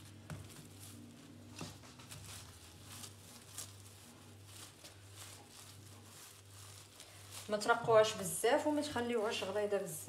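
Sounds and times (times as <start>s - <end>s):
plastic crackles: 0.0s - 10.0s
plastic film rustling: 0.0s - 10.0s.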